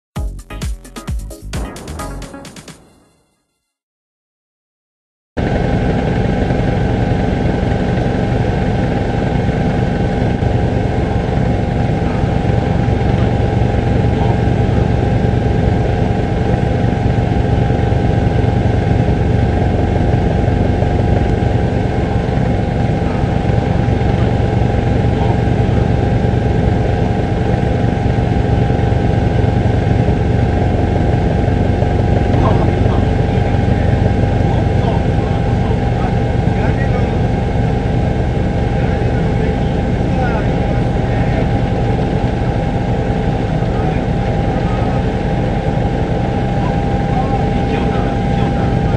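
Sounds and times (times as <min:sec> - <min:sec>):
helicopter engine and rotor drone: 0:05.4 - 0:48.9.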